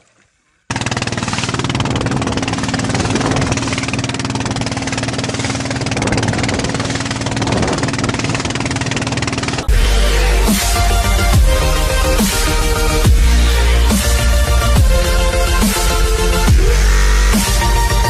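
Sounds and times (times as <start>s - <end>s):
boat engine running: 0.6s - 18.0s.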